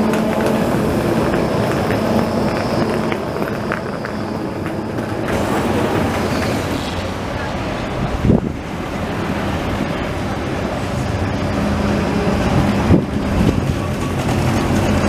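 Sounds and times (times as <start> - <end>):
street traffic noise: 0.0 - 15.0
tram motor whine: 0.0 - 15.0
tram rolling rumble: 0.0 - 15.0.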